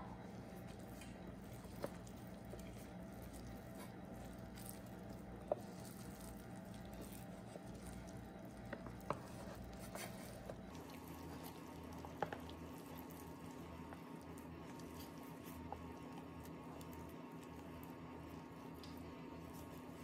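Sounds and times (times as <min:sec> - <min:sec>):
batter squishing: 0:00.0 - 0:20.0
steady low hum: 0:00.0 - 0:20.0.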